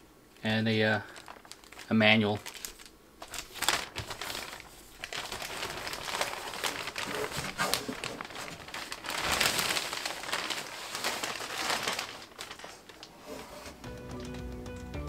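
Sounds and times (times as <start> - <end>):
plastic bag crinkling: 0.4 - 13.7.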